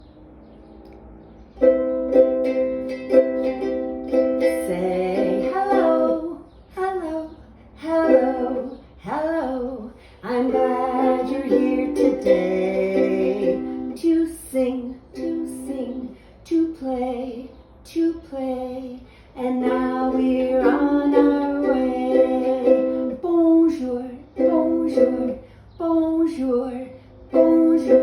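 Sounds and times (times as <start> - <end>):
person singing: 2.5 - 28.0.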